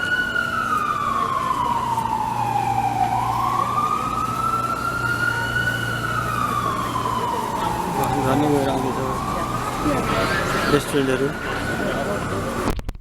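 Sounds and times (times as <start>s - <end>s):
emergency vehicle siren wailing: 0.0s - 12.8s.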